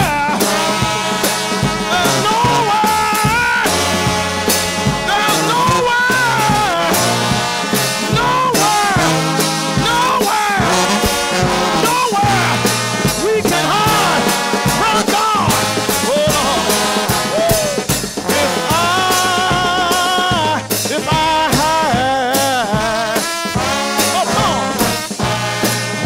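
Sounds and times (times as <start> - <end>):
percussion hits: 0.0 - 26.0
trombones swooping: 0.0 - 26.0.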